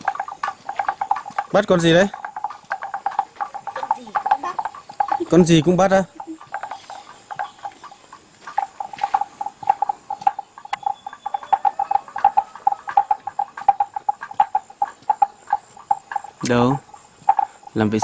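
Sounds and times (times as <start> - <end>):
hollow knocking clicks: 0.0 - 18.0.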